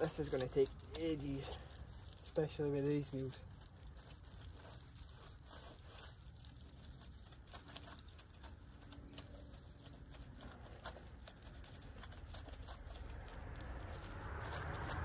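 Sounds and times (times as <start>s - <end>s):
low steady rumble: 0.0s - 15.0s
wash mitt scrubbing wheel: 0.0s - 15.0s.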